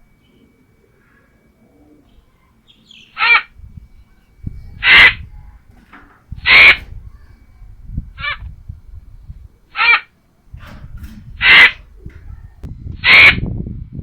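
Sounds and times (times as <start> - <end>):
bird harsh calls: 0.0 - 13.4.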